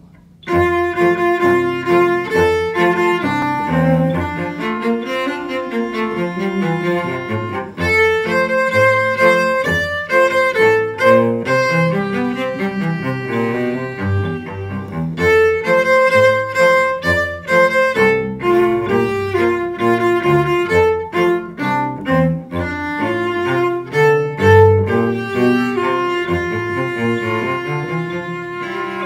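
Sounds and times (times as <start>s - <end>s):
cello duet: 0.0s - 29.0s.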